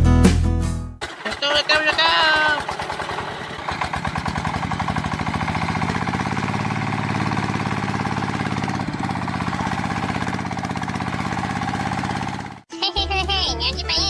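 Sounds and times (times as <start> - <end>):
small engine idling: 1.0 - 12.7.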